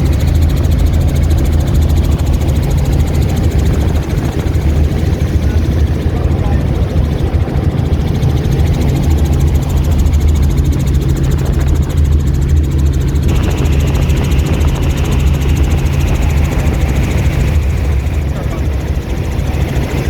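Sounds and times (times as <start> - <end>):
helicopter rotor and engine noise: 0.0 - 20.0.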